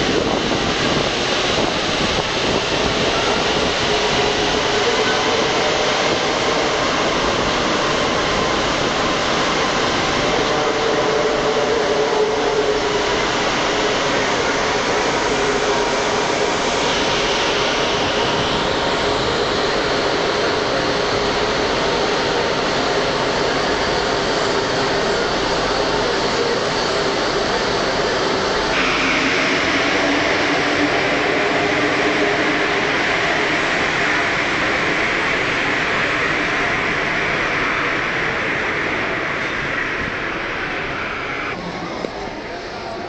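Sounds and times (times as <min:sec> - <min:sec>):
metro train running noise: 0:00.0 - 0:43.0.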